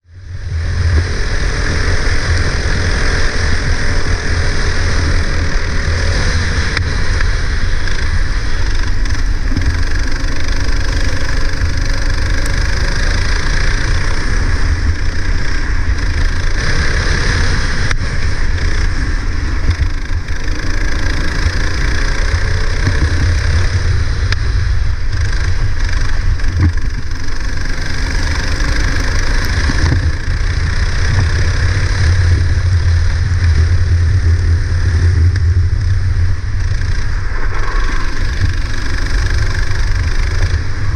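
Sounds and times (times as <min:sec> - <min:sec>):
go-kart engine revving: 0:00.2 - 0:40.9.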